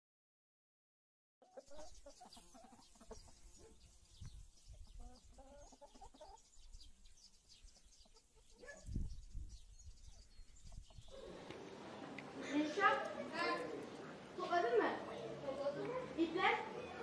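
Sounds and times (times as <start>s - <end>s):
chickens clucking: 1.4s - 17.0s.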